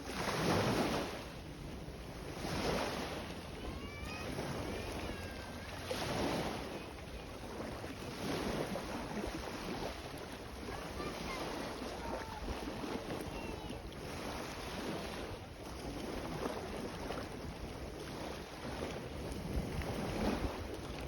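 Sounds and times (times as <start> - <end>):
sea waves breaking: 0.0 - 21.0
wind on microphone: 0.0 - 21.0.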